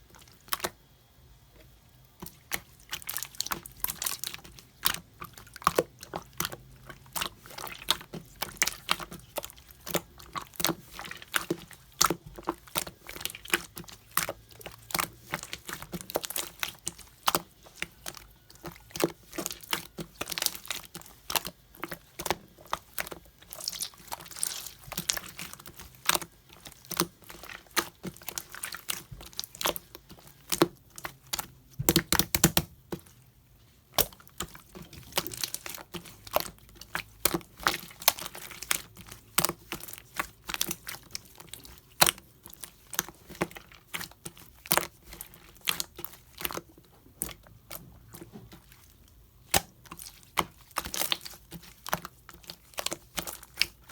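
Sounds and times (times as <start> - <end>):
hands squishing slime: 0.0 - 0.9, 1.6 - 53.9.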